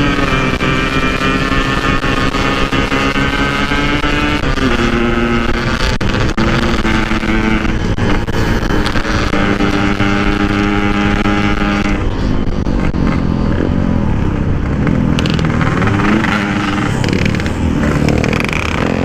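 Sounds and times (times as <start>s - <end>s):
two-stroke motorcycle engine running: 0.0s - 19.0s.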